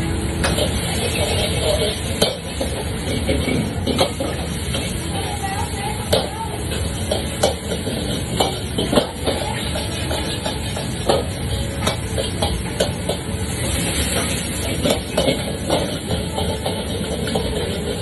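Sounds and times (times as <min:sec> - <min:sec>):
burner and extractor rumble: 0:00.0 - 0:18.0
metal ladles clanking on woks: 0:00.3 - 0:18.0.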